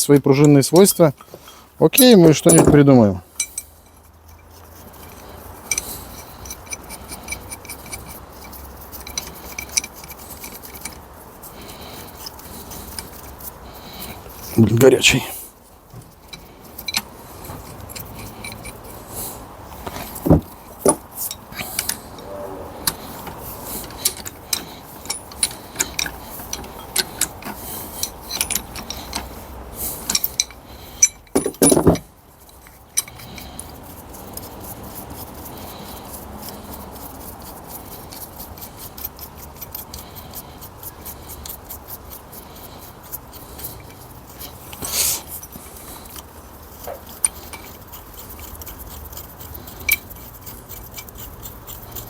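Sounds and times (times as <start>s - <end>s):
metal parts and tools clinking: 0.0s - 34.6s, 43.1s - 52.0s.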